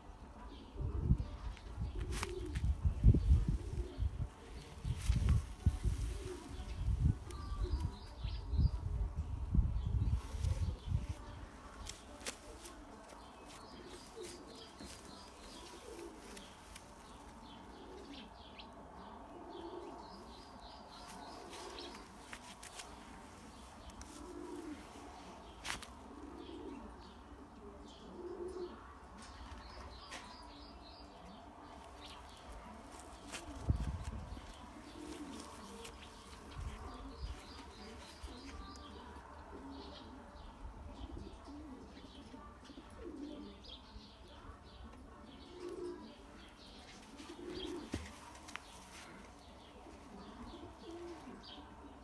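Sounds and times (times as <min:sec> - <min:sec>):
pigeons cooing: 0:00.5 - 0:08.2, 0:12.5 - 0:30.3, 0:31.2 - 0:52.0.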